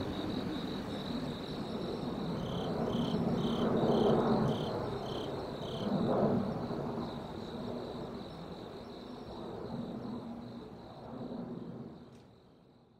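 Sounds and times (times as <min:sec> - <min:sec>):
high insect trill: 0:00.0 - 0:11.4
crickets chirping: 0:00.0 - 0:12.9.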